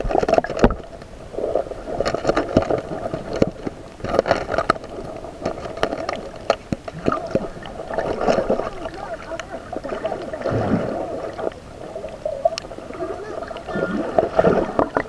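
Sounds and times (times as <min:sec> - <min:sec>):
muffled underwater wash: 0:00.0 - 0:15.0.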